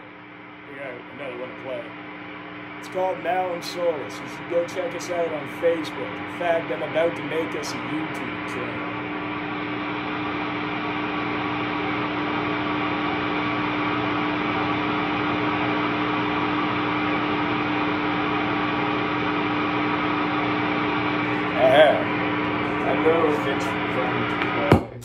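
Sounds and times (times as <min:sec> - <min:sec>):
amplifier hum and hiss: 0:00.0 - 0:25.0.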